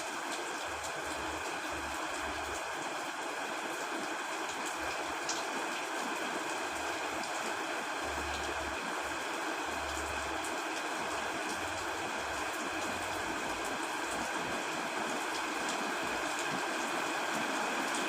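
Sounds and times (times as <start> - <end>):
heavy rain on a tent: 0.0 - 18.0.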